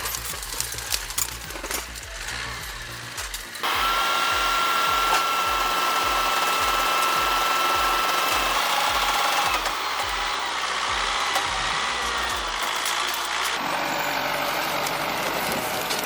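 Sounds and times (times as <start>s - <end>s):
machine whining: 0.0s - 16.0s.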